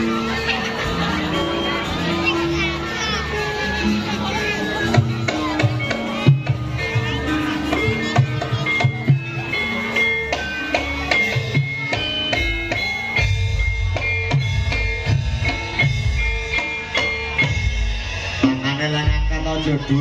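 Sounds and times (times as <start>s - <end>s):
instrumental band music: 0.0s - 20.0s.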